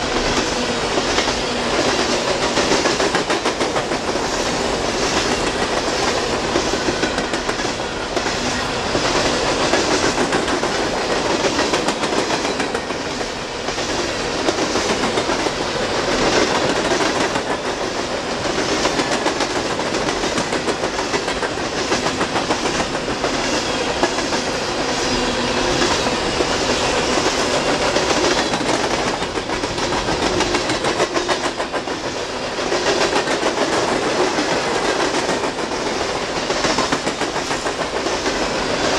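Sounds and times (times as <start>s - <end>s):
steel train wheels on rails: 0.0s - 38.9s.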